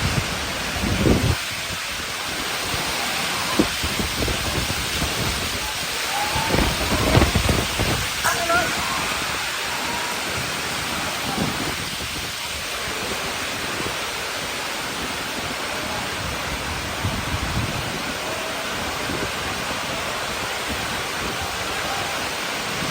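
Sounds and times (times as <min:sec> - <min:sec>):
gusting wind: 0:00.0 - 0:22.9
heavy rain: 0:00.0 - 0:22.9.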